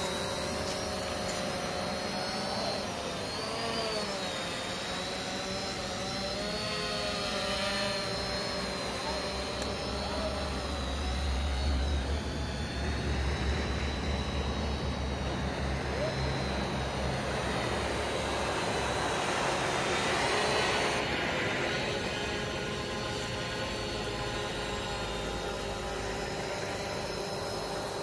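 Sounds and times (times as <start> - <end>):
drone propellers whirring: 0.0 - 28.0.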